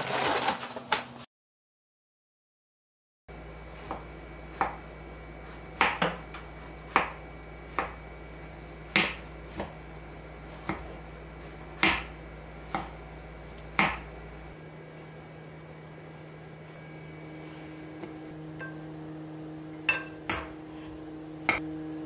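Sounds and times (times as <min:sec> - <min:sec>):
faint steady hum: 0:03.3 - 0:22.0.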